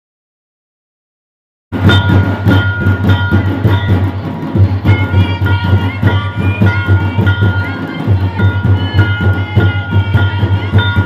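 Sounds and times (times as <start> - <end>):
barrel drums beating fast: 1.7 - 11.0.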